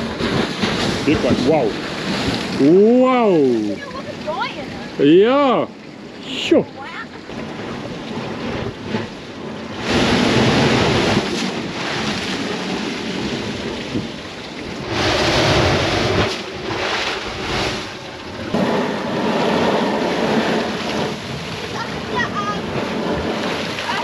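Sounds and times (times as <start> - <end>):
sea surging through blowhole: 0.0 - 24.0.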